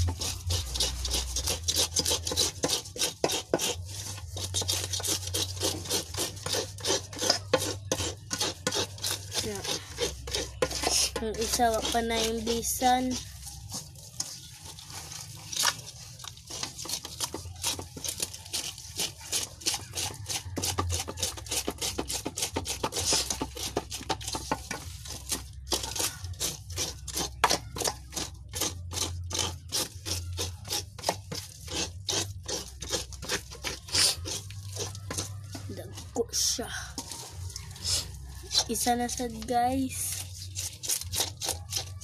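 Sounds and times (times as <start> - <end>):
scraper rasping over fish scales: 0.0 - 42.0.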